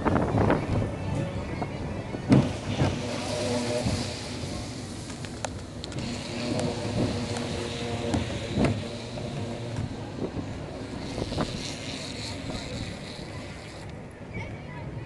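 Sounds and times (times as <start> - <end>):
roller coaster rumbling on track: 0.0 - 15.0
wind on microphone: 0.0 - 15.0.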